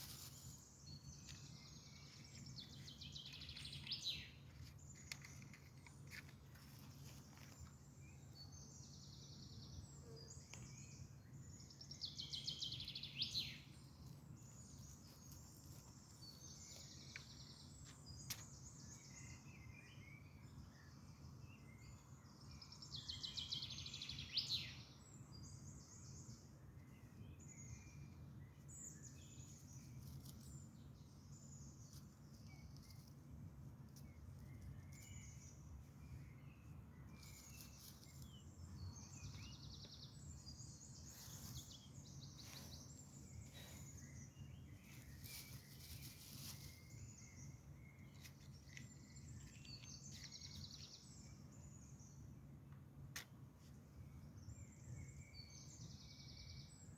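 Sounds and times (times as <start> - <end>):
songbirds chirping: 0.0 - 56.9.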